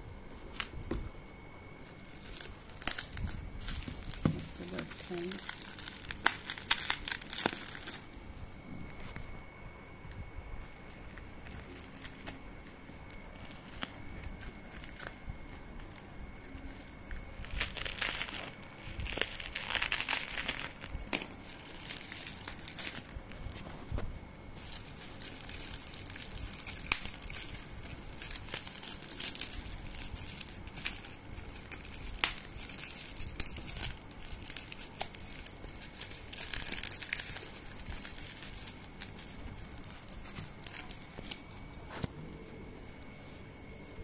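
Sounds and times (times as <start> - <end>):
bubble wrap crinkling: 0.0 - 44.0.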